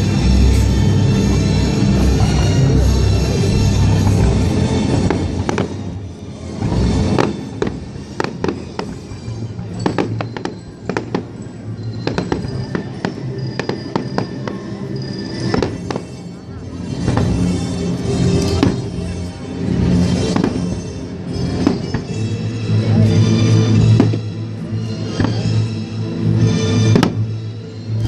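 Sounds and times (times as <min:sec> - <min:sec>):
fireworks bangs and crackles: 0:00.1 - 0:25.7, 0:26.8 - 0:28.0.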